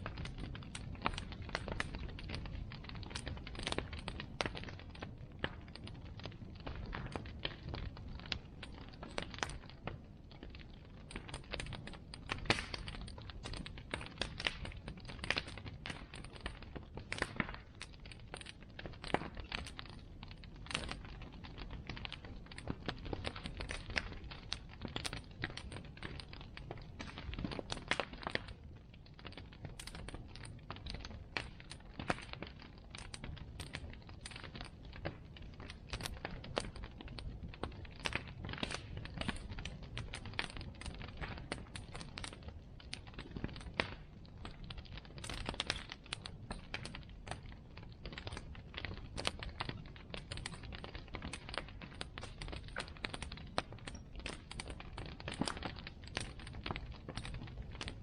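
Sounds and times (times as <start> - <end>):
bonfire crackling: 0.0 - 58.0.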